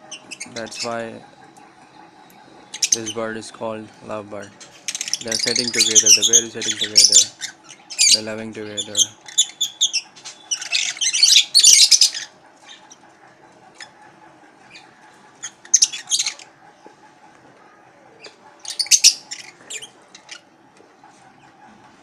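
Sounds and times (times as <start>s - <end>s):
lovebirds squawking and chirping: 0.0s - 22.0s.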